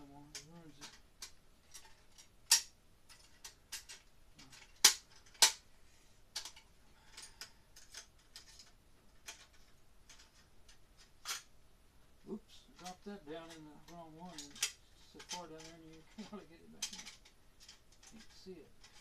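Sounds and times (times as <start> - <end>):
tool pieces clicking and tapping: 0.2 - 5.6, 6.3 - 11.5, 12.8 - 19.0.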